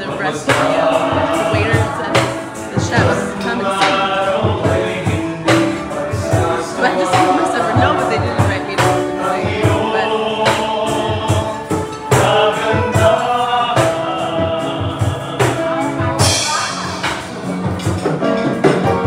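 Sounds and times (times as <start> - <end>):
music with steady beat: 0.0 - 19.0
people singing: 0.0 - 19.0.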